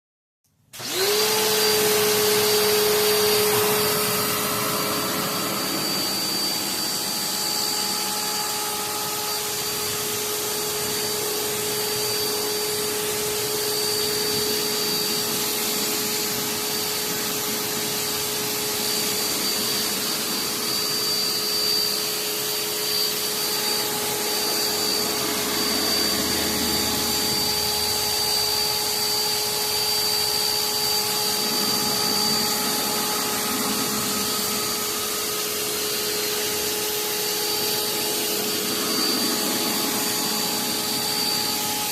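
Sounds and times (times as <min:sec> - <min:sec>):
pressure washer machine whine: 0:00.7 - 0:41.9.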